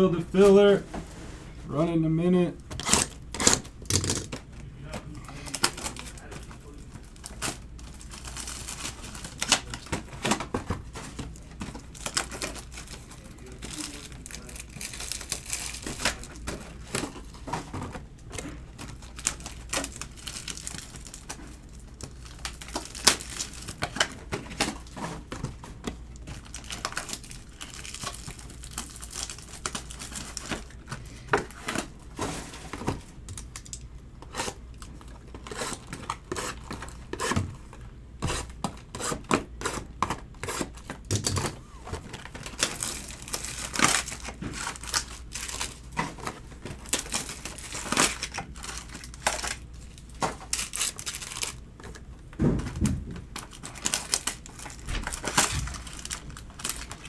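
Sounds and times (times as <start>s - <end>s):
foil wrappers crinkling and tearing: 2.7s - 37.8s, 39.8s - 52.0s, 53.2s - 57.0s.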